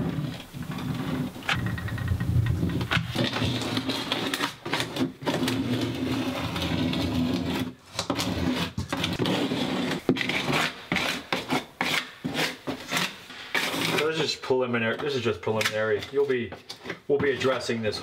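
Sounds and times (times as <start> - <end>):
putty knife scraping board: 0.0 - 14.3, 15.0 - 18.0.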